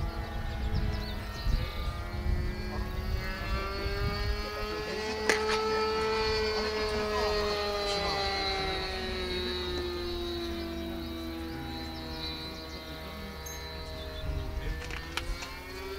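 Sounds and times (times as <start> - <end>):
bird chirps: 0.0 - 5.9, 8.4 - 15.9
model aircraft engine running: 0.0 - 15.9.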